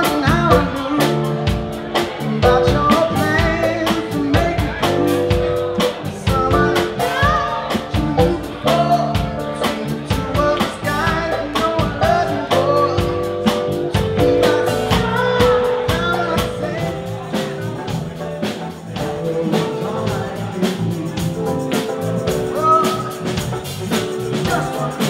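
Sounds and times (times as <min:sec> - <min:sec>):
band playing with singer: 0:00.0 - 0:25.0.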